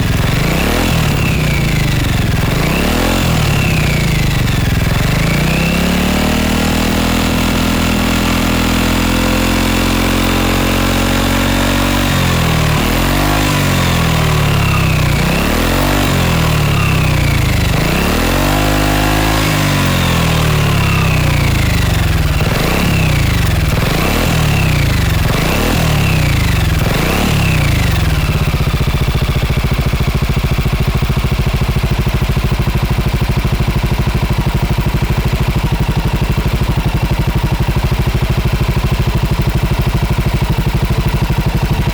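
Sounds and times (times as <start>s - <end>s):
scooter engine revving and idling: 0.0s - 41.9s.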